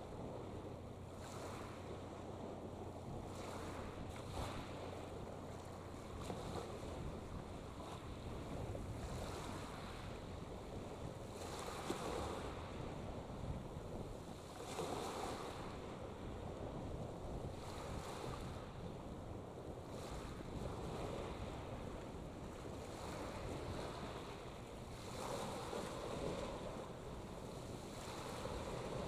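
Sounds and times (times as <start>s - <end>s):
small waves washing: 0.0s - 29.0s
wind on the microphone: 0.0s - 29.0s.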